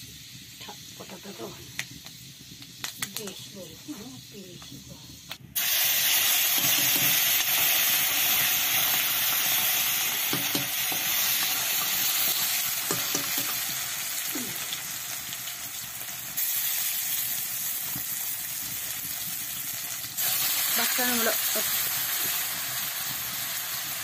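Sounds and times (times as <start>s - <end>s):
paste sizzling in hot oil: 0.0s - 24.0s.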